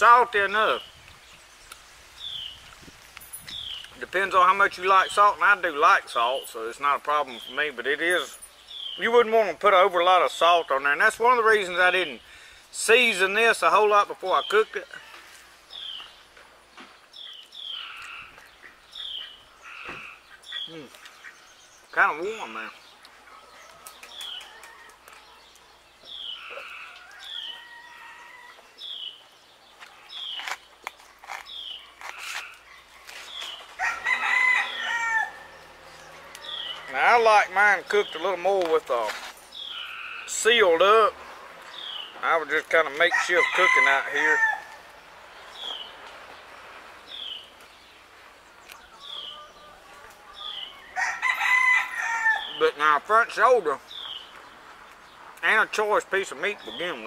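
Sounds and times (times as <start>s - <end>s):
bird chirping: 0.0s - 15.1s, 15.7s - 57.0s
chickens calling: 3.5s - 57.0s.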